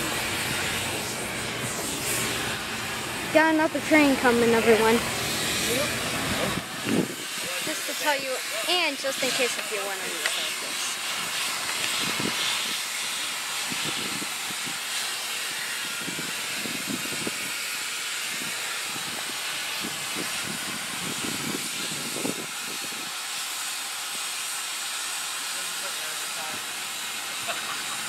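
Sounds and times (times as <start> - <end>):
air hissing from brake line: 0.0 - 28.0.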